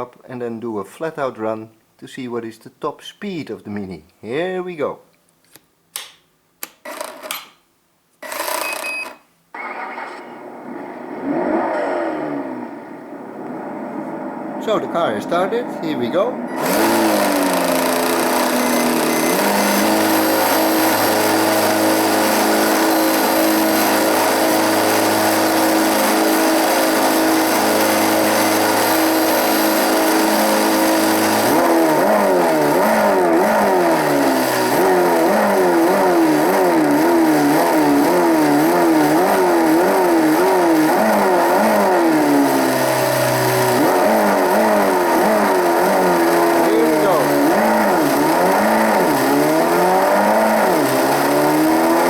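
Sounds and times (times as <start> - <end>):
slot car engine sound revving: 8.2 - 52.0.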